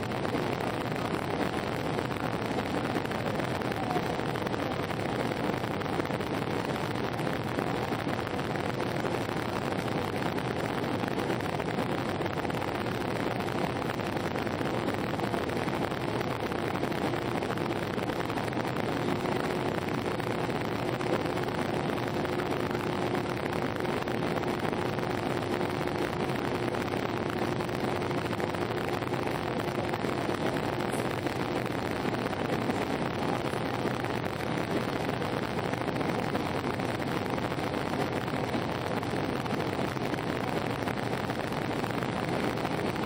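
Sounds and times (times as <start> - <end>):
airliner cabin airflow and engine hum: 0.0 - 43.0.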